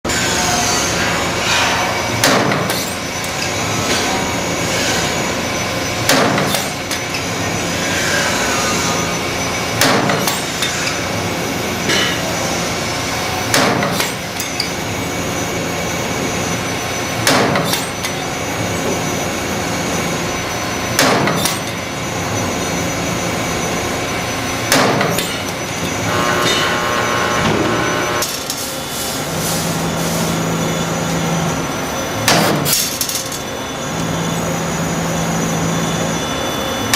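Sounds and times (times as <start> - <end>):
machine whirring: 0.1 - 36.9.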